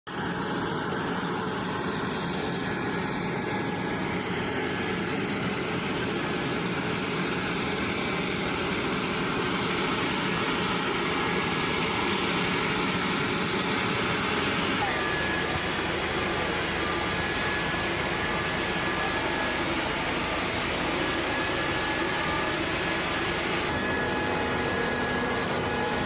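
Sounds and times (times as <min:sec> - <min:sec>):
jet engines running: 0:00.1 - 0:26.0.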